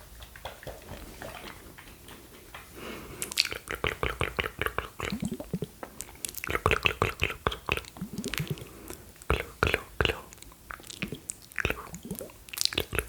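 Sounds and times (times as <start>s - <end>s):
wet mouth clicks and pops: 2.5s - 13.0s.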